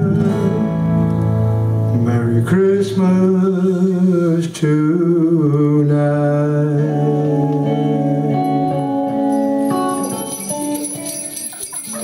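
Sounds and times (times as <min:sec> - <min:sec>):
electric and acoustic guitars: 0:00.0 - 0:12.0.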